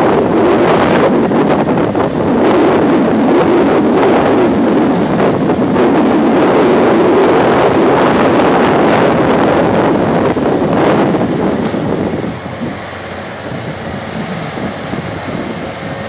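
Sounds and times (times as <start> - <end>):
excavator diesel engines: 0.0 - 16.0
wind buffeting microphone: 0.0 - 16.0.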